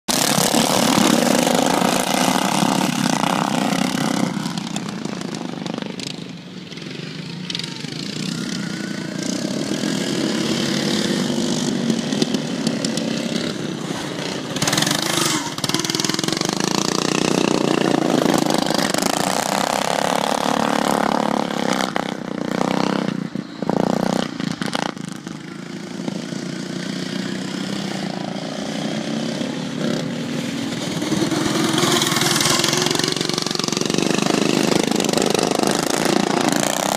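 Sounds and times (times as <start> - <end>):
lawn mower engines racing: 0.1 - 36.9.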